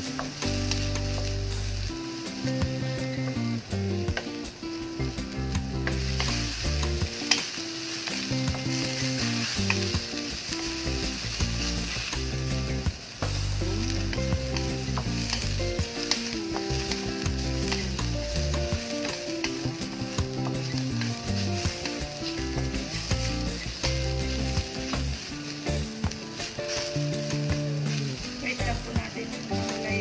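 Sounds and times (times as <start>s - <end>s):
onions sizzling in oil: 0.0s - 30.0s
wooden spatula scraping a wok: 0.0s - 30.0s.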